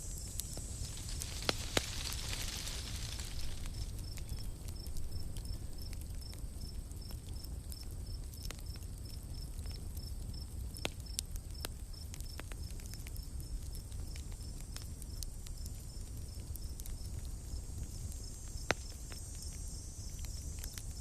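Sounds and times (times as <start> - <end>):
campfire crackling and popping: 0.0 - 21.0
cricket chirping: 0.0 - 21.0.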